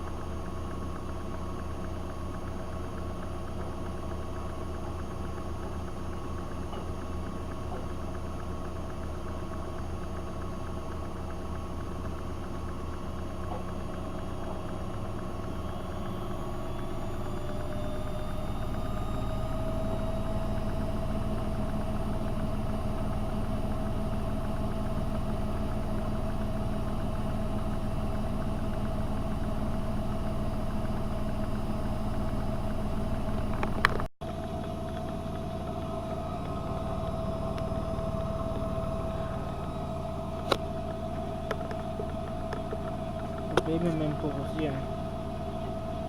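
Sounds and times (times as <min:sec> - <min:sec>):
washing machine motor humming: 0:00.0 - 0:46.0.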